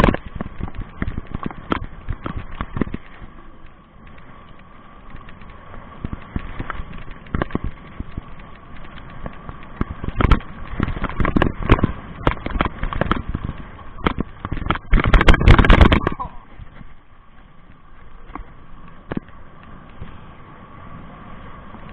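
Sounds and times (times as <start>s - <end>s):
bike knocking and rattling: 0.0s - 21.9s.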